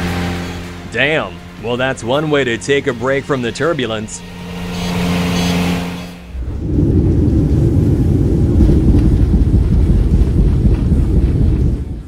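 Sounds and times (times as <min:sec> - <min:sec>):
propeller engine drone: 0:00.0 - 0:12.0.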